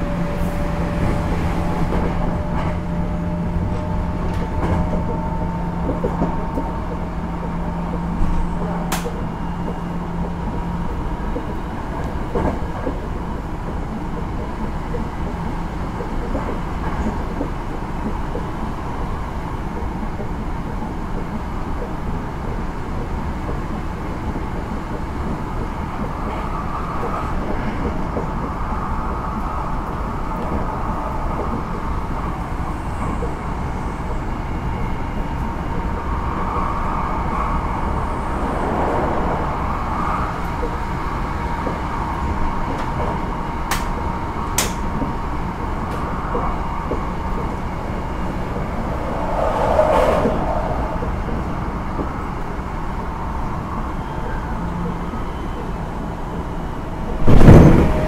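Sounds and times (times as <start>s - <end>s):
wheels rumbling on rail: 0.0s - 58.0s.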